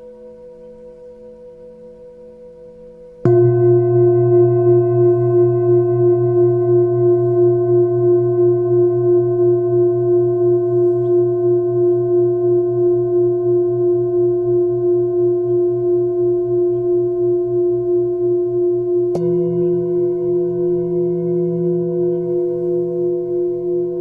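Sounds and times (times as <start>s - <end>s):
singing bowl ringing: 3.2s - 24.0s.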